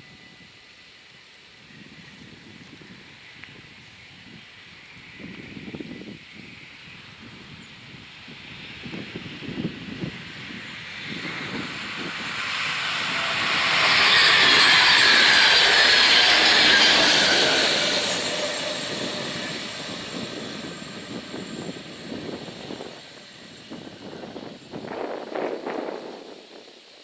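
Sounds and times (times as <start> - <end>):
electric passenger train passing: 0.0 - 27.0.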